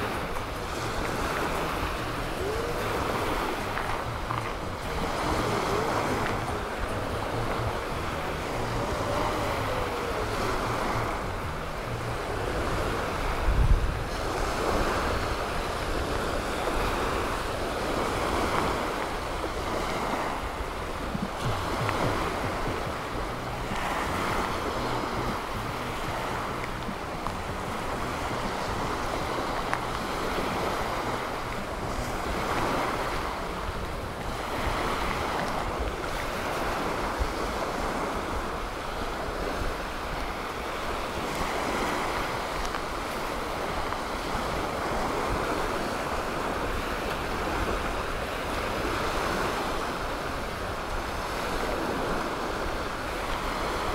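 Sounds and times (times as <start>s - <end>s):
surf washing on beach: 0.0s - 53.9s
wind rumbling on microphone: 0.0s - 53.9s.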